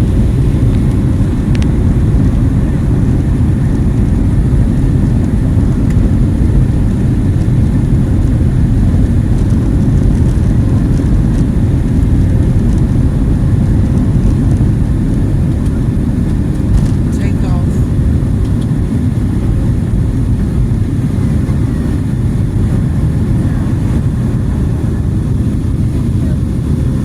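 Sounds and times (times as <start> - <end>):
jet engines rumbling in cabin: 0.0 - 27.0.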